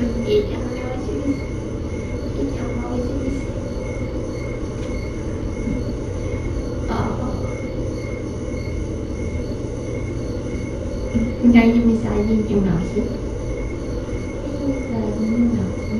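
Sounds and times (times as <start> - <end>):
faint pulsing high tone: 0.0 - 15.9
low rumbling background noise: 0.0 - 15.9.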